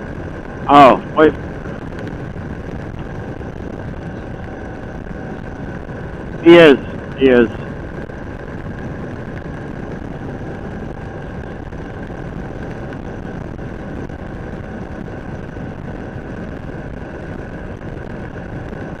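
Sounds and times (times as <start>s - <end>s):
wind rush over microphone: 0.0s - 19.0s.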